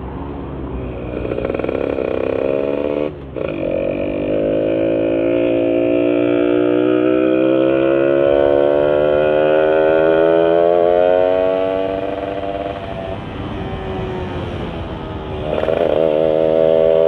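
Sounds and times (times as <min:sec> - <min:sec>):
two-stroke motorcycle engine accelerating: 0:01.0 - 0:17.0.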